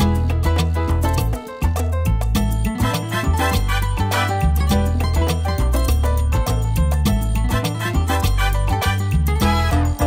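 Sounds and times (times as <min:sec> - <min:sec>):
music with strong bass and beat: 0:00.0 - 0:10.0.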